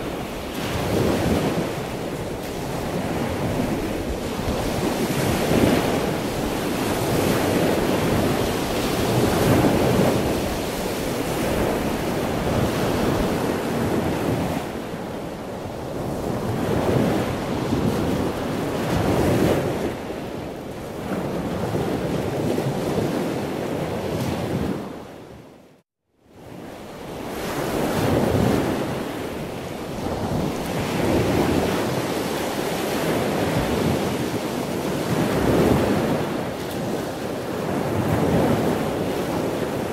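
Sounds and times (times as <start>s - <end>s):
wind rushing on microphone: 0.0s - 25.6s, 26.3s - 39.9s.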